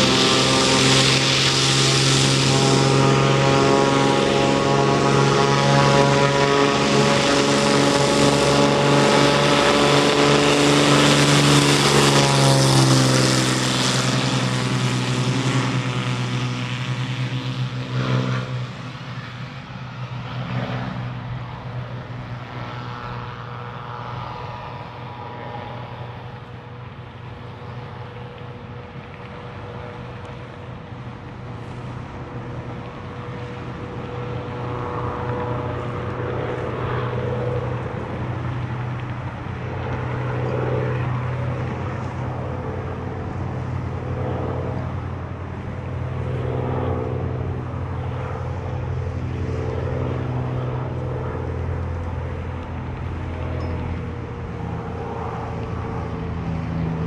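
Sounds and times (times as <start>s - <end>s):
light aircraft engine passing: 0.0s - 57.0s.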